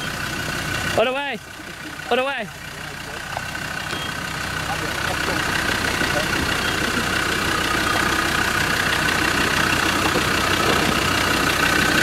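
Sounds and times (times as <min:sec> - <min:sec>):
engine running hard with whine: 0:00.0 - 0:12.0.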